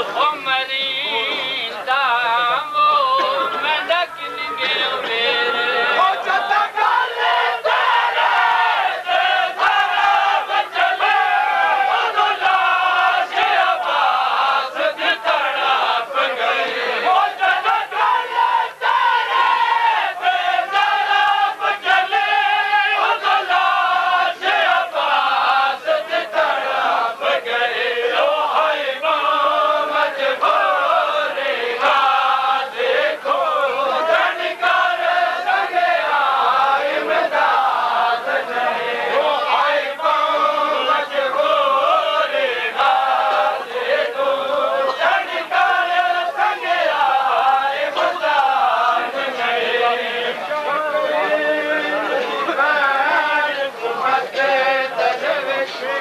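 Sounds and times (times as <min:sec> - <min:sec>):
crowd of men chanting: 0:00.0 - 0:56.0.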